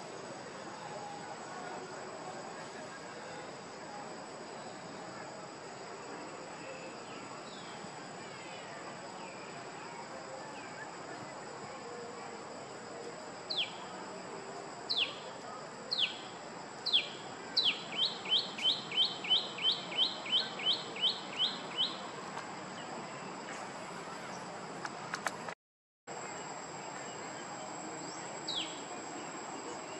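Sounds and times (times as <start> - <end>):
insect drone: 0.0 - 29.9.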